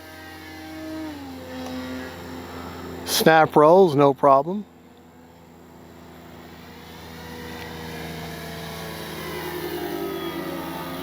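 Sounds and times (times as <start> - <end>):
model airplane motor humming: 0.0 - 11.0.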